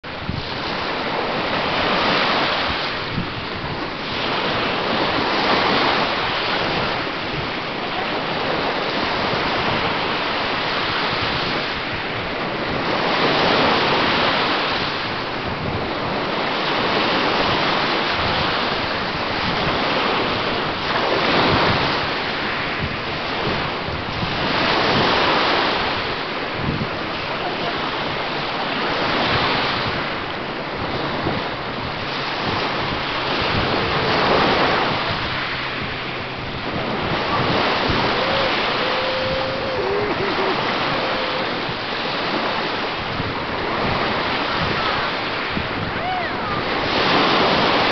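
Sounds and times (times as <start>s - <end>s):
small waves washing on a beach: 0.0s - 47.9s.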